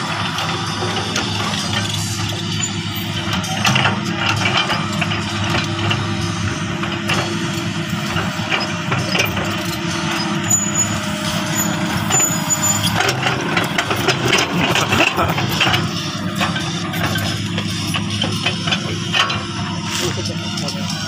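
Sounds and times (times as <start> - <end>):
excavator diesel engine running: 0.0 - 21.0
knocks and clanks from tracks: 0.0 - 21.0.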